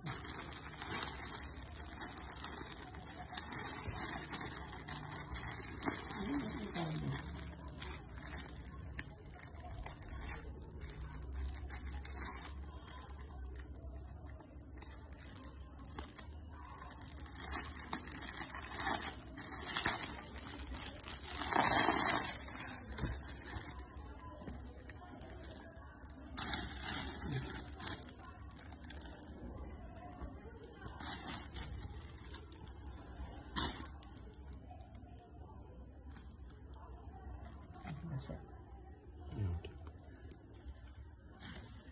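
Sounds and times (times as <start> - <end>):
plastic packaging crinkling: 0.0 - 38.0, 40.0 - 41.9.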